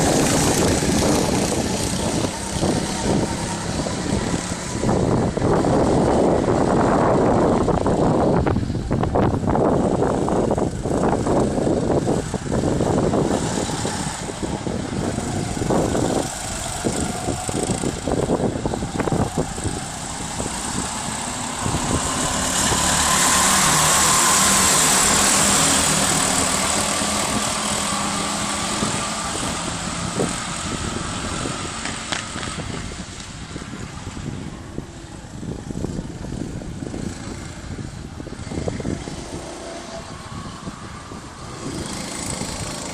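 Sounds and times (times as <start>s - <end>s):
go-kart engines running: 0.0s - 42.9s
go-kart passing close: 0.0s - 42.9s
wind buffeting microphone: 0.0s - 42.9s.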